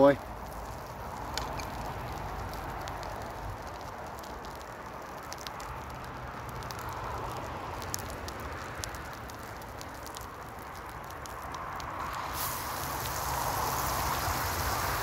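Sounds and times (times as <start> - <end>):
cooking fire crackling: 0.0 - 15.0
traffic rushing past: 0.0 - 15.0.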